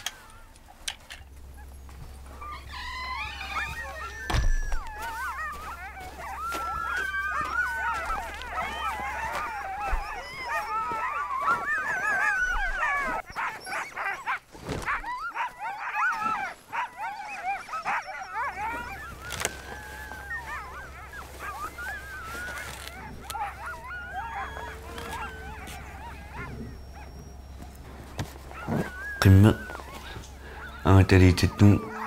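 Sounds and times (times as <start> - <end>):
dogs howling in chorus: 0.0 - 32.0.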